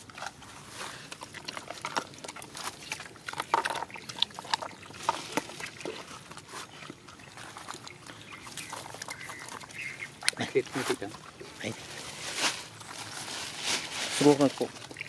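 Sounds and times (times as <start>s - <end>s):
dogs chewing and lapping: 0.0s - 15.0s.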